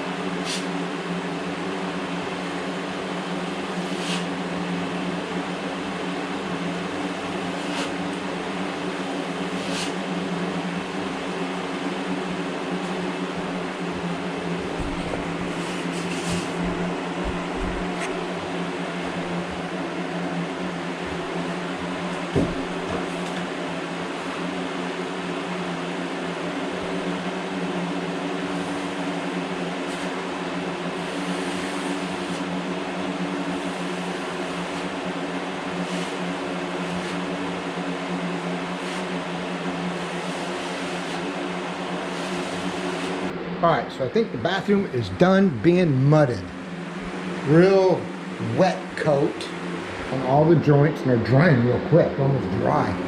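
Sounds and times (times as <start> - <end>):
motor humming: 1.3 - 53.0.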